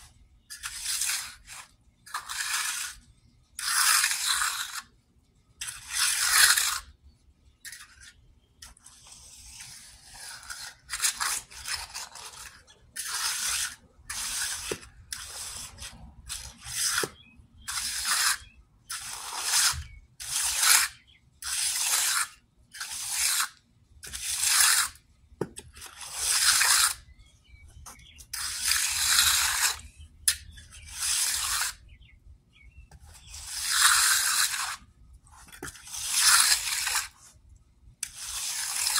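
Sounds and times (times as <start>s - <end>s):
trowel scraping wet concrete: 0.0s - 5.0s, 5.6s - 7.0s, 7.6s - 37.4s, 38.0s - 38.9s.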